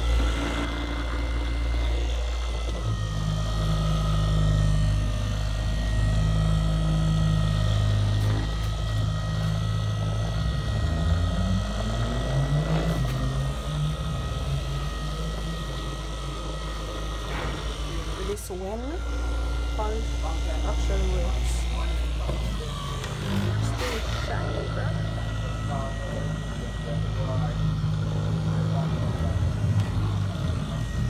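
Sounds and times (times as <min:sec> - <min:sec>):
car polisher motor whining: 0:00.0 - 0:31.0.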